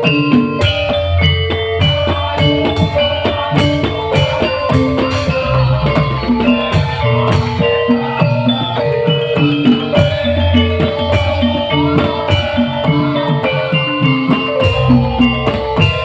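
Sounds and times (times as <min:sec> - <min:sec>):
drums beating: 0:00.0 - 0:16.0
live band music: 0:00.0 - 0:16.0
tuned percussion melody: 0:00.0 - 0:16.0.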